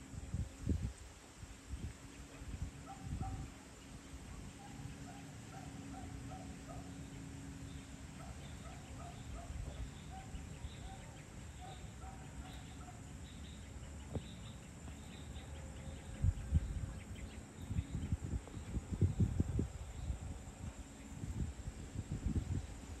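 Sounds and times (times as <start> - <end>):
birds and insects chirping: 0.0 - 23.0
steady low rumble: 0.0 - 23.0.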